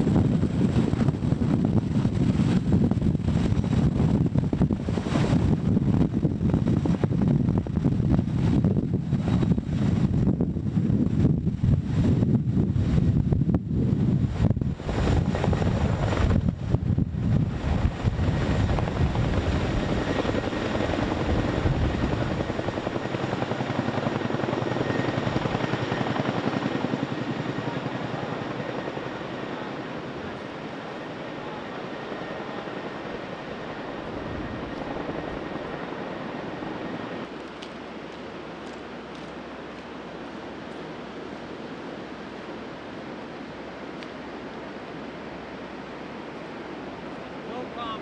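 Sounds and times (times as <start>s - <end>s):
helicopter rotor beat and turbine: 0.0s - 48.0s.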